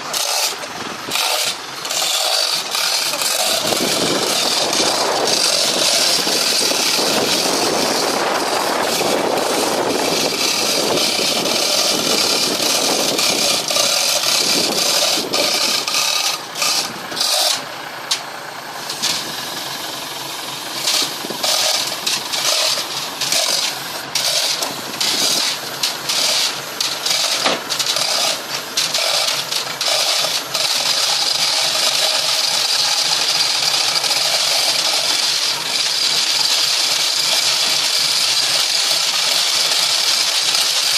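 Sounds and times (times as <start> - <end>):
faltering boat engine: 0.0 - 40.9.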